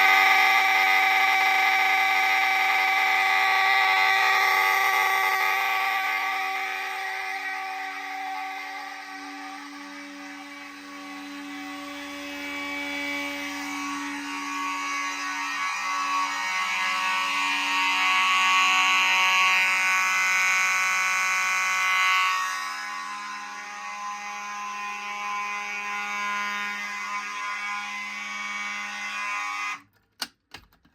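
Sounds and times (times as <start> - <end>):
fire alarm tone: 0.0 - 29.8.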